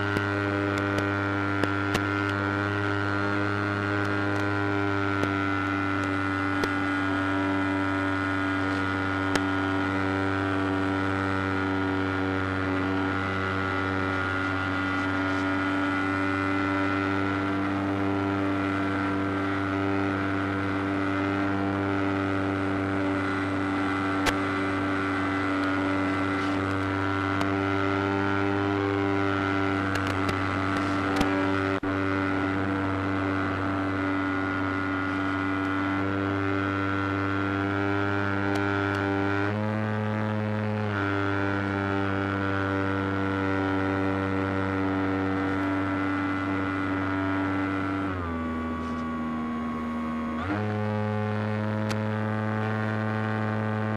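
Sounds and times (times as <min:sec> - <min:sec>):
radio static clicks: 0:00.0 - 0:39.6, 0:43.8 - 0:53.9
steady electrical buzz: 0:00.0 - 0:53.9.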